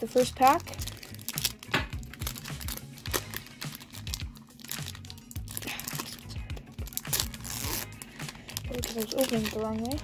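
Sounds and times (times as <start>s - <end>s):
low background music: 0.0s - 10.0s
plastic wrapper crinkling: 0.0s - 10.0s.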